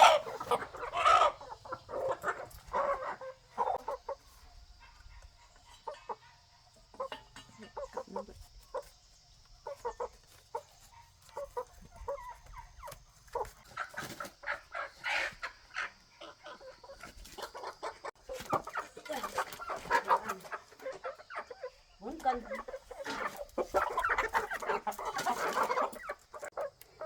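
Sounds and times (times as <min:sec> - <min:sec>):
chickens clucking and squawking: 0:00.0 - 0:27.0.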